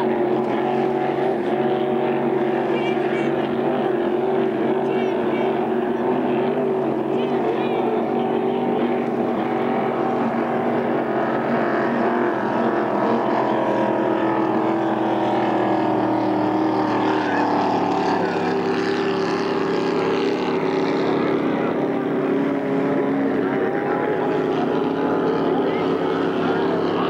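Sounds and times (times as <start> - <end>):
racing boat engines droning: 0.0 - 27.0.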